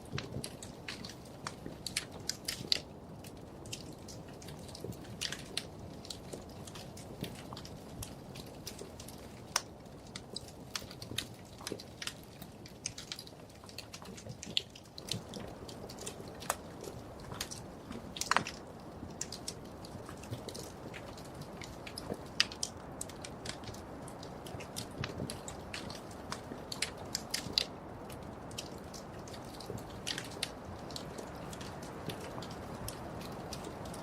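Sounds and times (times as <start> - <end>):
low steady hiss: 0.0 - 34.0
wood fire crackling and popping: 0.0 - 34.0.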